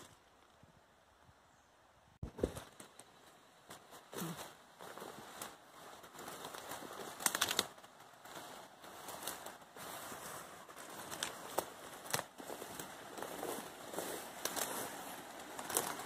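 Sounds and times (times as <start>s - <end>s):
leaves and twigs crackling: 2.2s - 16.0s
footsteps through leaf litter: 3.0s - 16.0s.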